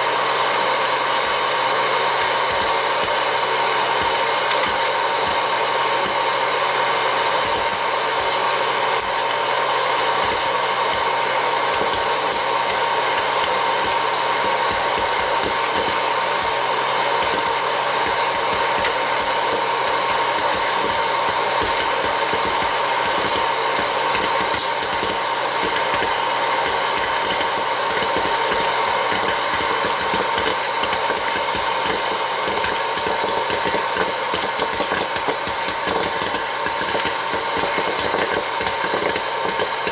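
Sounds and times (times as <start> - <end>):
popper fan whine: 0.0 - 39.9
popcorn kernels popping: 0.6 - 6.4, 7.2 - 39.9.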